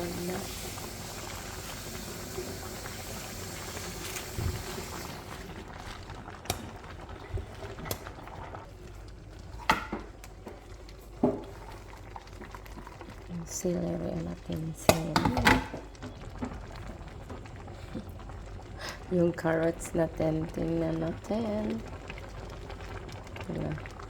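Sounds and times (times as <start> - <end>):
pot bubbling on stove: 0.0 - 24.0.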